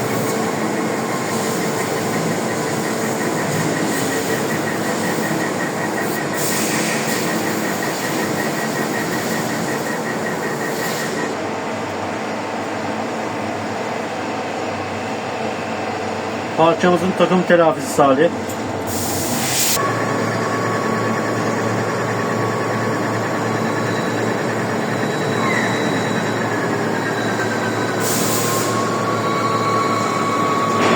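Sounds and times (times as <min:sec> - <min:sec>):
machine whir and hiss: 0:00.0 - 0:11.6, 0:16.6 - 0:30.9.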